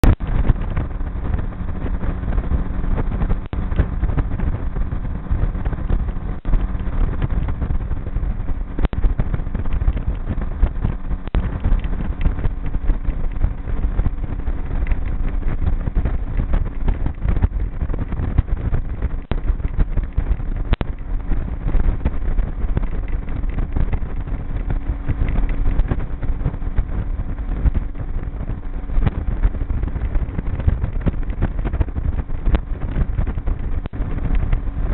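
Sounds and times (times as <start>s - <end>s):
motorboat engine running: 0.0s - 34.9s
wind buffeting microphone: 0.0s - 34.9s.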